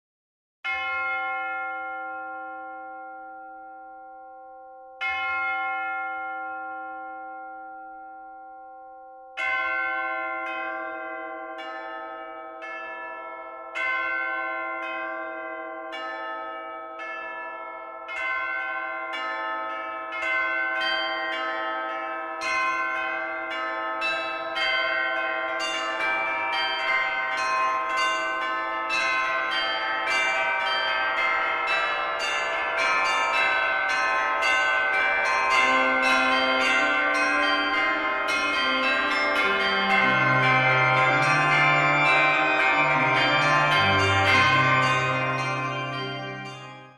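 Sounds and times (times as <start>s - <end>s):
church bell tolling: 0.7s - 46.9s.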